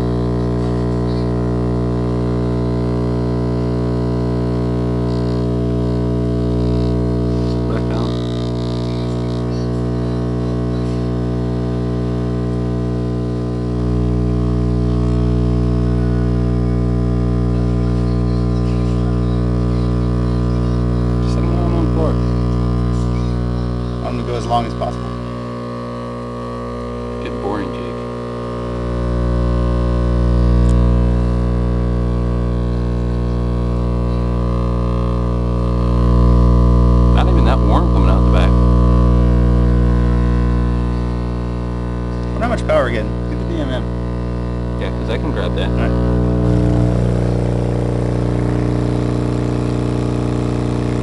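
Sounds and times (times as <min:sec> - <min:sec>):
loud low bass tone: 0:00.0 - 0:51.0
subwoofers droning mains hum: 0:00.0 - 0:51.0.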